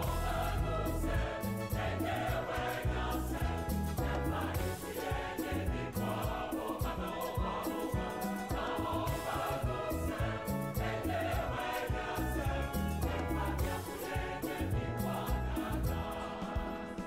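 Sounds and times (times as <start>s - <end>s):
pulsing bass beat and percussion: 0.0s - 16.2s
group singing: 0.0s - 17.0s.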